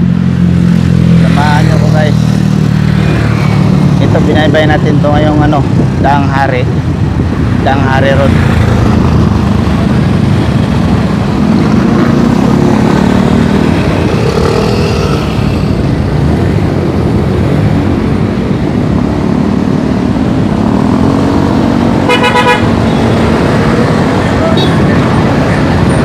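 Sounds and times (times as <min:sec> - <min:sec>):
motorcycle and car engines: 0:00.0 - 0:26.0
wind rumble on microphone: 0:00.9 - 0:26.0.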